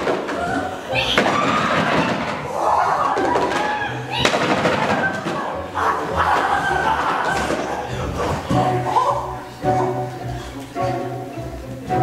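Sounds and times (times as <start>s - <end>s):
young actors' voices: 0.0s - 12.0s.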